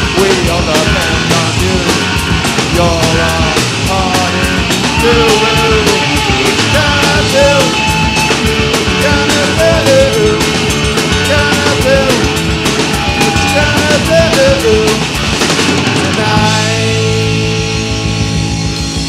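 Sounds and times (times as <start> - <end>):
punk rock band playing: 0.0 - 19.0.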